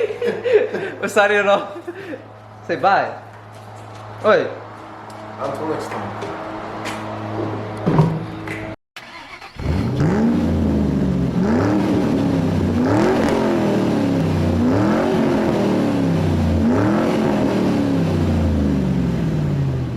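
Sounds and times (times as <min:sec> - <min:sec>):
motorcycle engine revving: 0:03.7 - 0:19.9.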